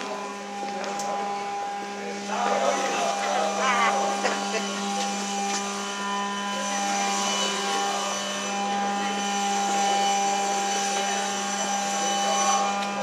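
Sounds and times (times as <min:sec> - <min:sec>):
mechanical hum with steady tones: 0:00.0 - 0:13.0.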